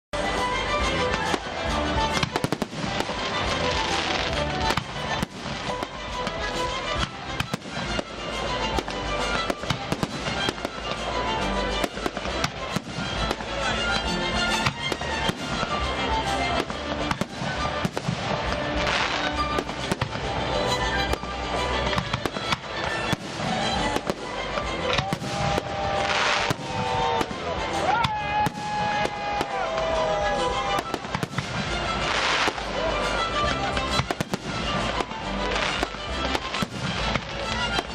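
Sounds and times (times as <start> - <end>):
background music: 0.1 - 37.9
fireworks bangs and crackles: 0.2 - 37.9.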